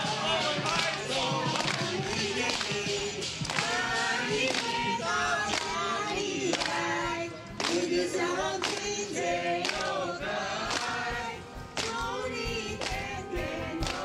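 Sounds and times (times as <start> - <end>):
group of voices singing: 0.0 - 14.0
people clapping a beat: 0.0 - 14.0.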